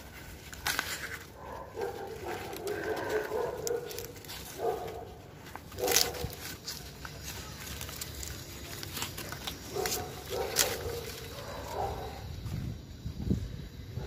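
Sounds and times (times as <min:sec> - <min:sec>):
corn stalks rustling and snapping: 0:00.0 - 0:12.5.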